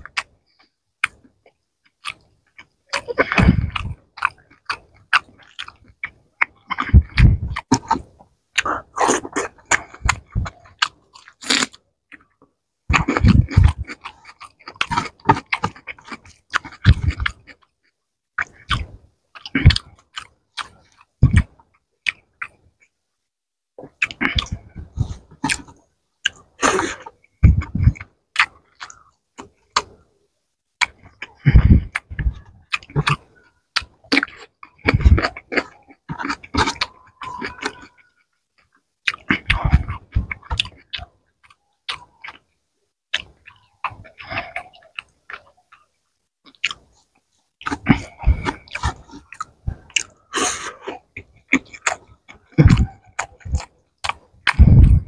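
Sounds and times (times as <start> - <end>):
person chewing wetly: 0.0 - 22.9, 23.8 - 30.1, 30.8 - 42.5, 43.1 - 55.0.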